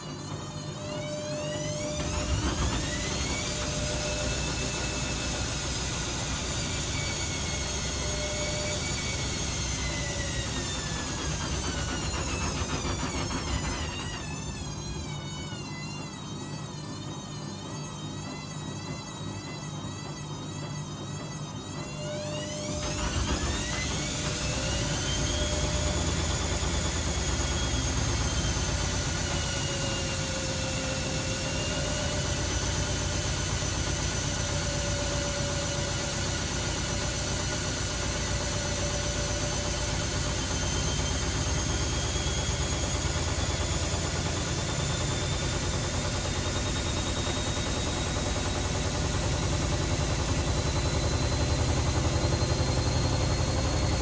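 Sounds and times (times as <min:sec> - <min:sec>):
washing machine motor whine: 0:00.0 - 0:54.0.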